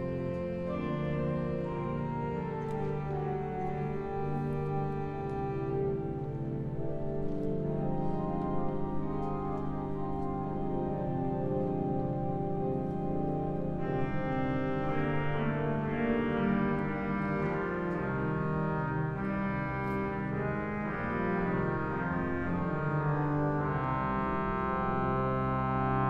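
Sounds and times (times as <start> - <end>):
church organ playing hymn chords: 0.0 - 26.0.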